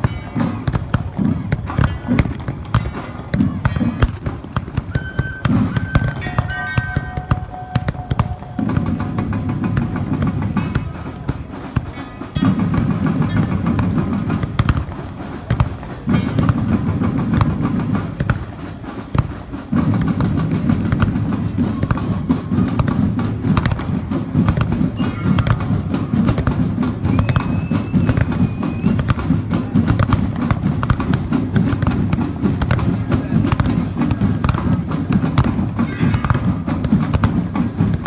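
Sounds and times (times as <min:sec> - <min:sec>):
loud music with drums: 0:00.0 - 0:38.0.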